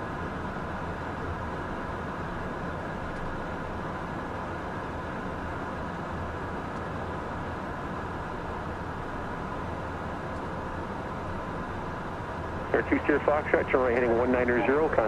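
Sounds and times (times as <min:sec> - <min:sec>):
faint steady hum: 0:00.0 - 0:15.0
jet engine drone: 0:00.0 - 0:15.0.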